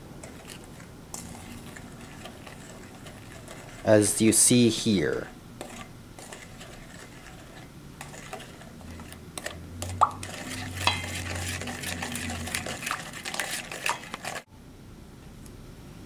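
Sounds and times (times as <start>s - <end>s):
spoon scraping metal bowl: 0.2s - 14.5s.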